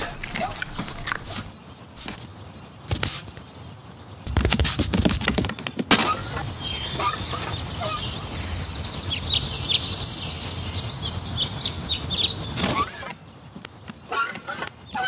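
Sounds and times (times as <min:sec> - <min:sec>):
low background rumble: 0:00.0 - 0:13.5
birds chirping: 0:00.0 - 0:15.0.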